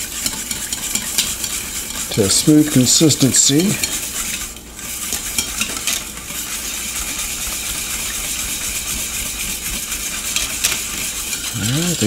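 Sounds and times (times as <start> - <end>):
whisk beating liquid in metal bowl: 0.0 - 12.0.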